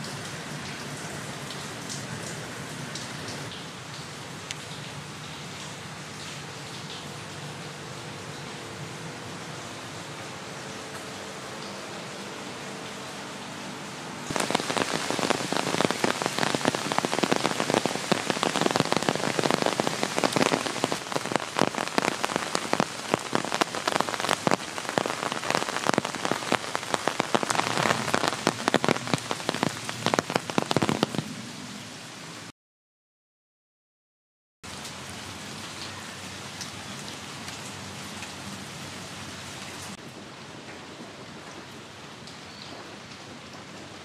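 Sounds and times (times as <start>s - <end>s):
rain pattering: 0.0s - 32.5s, 34.6s - 44.0s.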